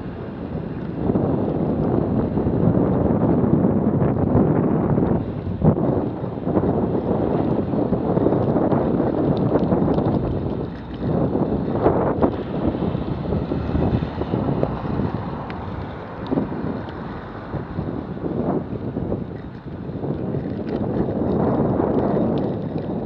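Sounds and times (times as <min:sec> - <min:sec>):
tyres on wet road: 0:00.0 - 0:23.0
wind rushing over microphone: 0:00.0 - 0:23.0.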